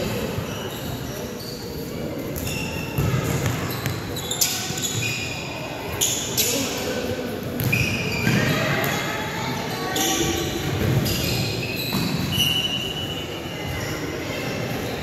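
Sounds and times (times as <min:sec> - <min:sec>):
sneakers squeaking: 0:00.0 - 0:15.0.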